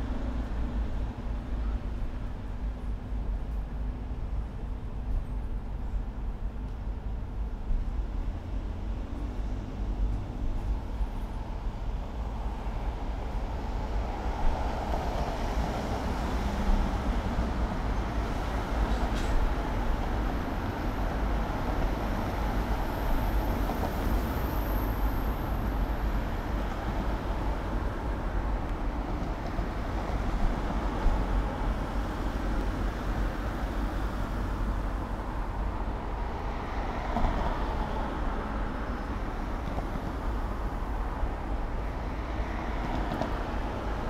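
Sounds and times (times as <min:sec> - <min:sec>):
road traffic rumble and hiss: 0:00.0 - 0:44.0.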